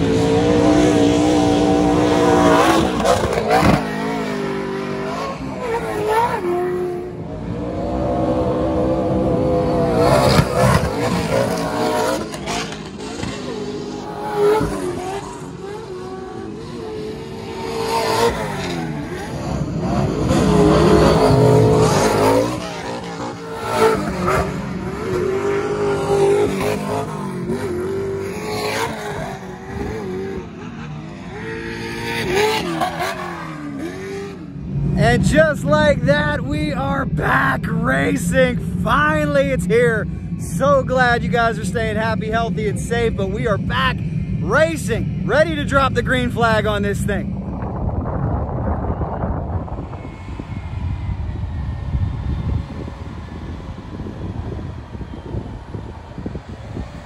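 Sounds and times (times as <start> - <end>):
race truck engines revving: 0.0 - 57.0.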